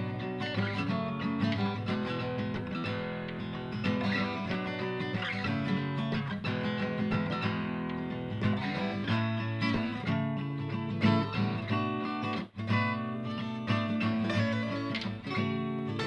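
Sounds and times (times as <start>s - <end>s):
strummed guitar music: 0.0s - 16.0s.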